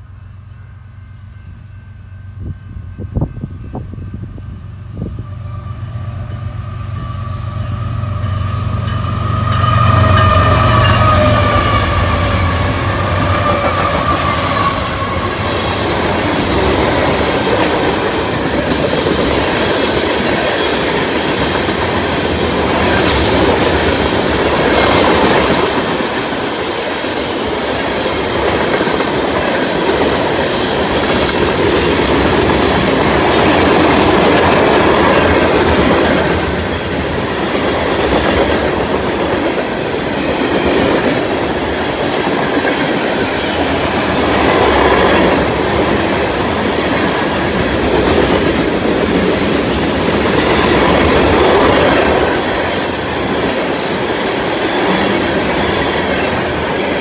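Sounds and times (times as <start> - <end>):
train wheels rumbling on rails: 1.3 - 57.0.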